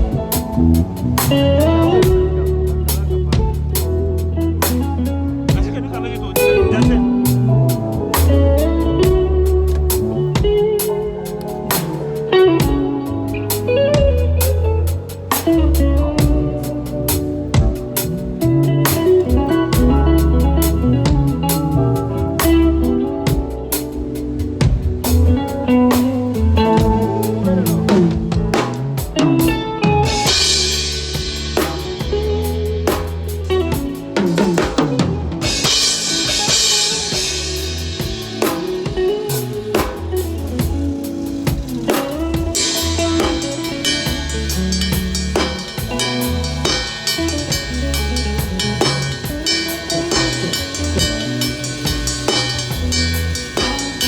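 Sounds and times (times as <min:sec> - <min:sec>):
bass guitar: 0:00.0 - 0:54.0
drum kit: 0:00.0 - 0:54.0
electric guitar lines: 0:00.0 - 0:54.0
sustained keyboard chords: 0:00.0 - 0:54.0.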